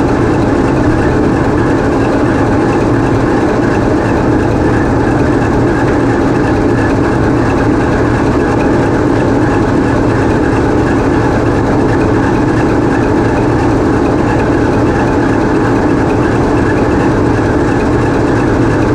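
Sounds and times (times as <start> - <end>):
locomotive diesel engine running: 0.0 - 18.9.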